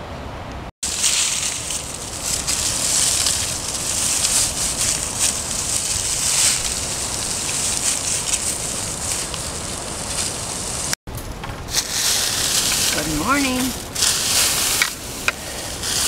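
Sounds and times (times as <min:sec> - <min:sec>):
dry straw rustling and crunching: 0:00.8 - 0:11.0, 0:11.6 - 0:16.0.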